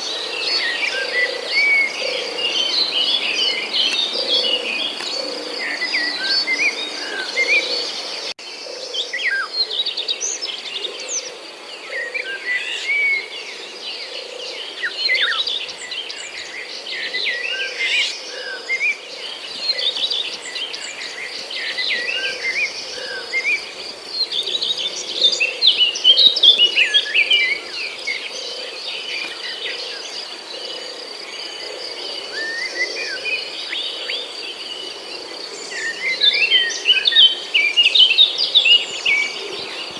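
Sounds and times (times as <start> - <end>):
birds chirping and twittering: 0.0 - 39.9
insects droning: 0.0 - 39.9.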